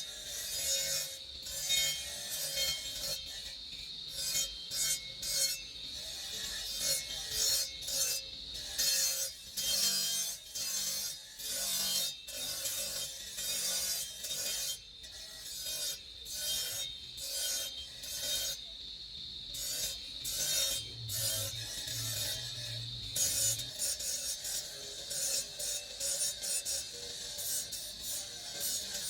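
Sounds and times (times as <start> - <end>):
rasping strokes on stone: 0.0 - 29.0.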